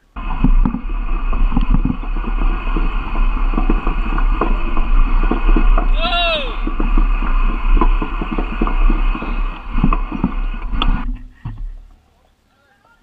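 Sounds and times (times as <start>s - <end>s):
wind buffeting microphone: 0.0s - 11.4s
bike knocks and rattles: 0.0s - 12.0s
tyres rumbling on dirt: 0.0s - 12.0s.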